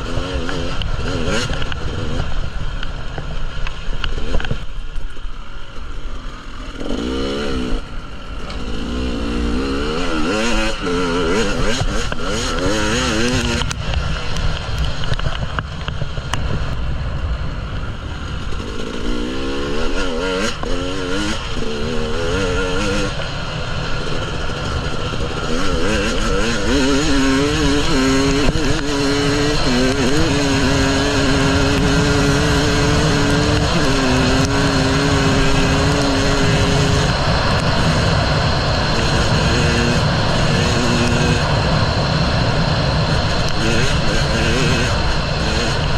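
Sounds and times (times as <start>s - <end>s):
two-stroke motorcycle engine revving: 0.0s - 45.9s.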